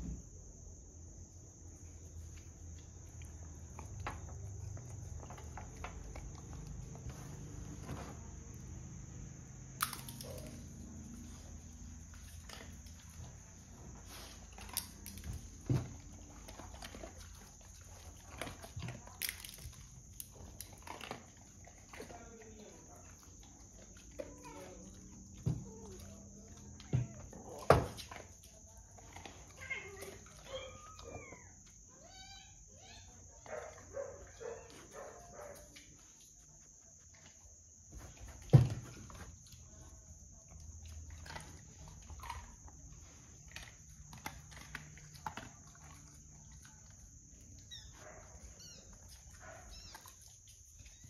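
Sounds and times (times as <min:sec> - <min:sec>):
dogs sniffing and snuffling: 0:00.5 - 0:51.0.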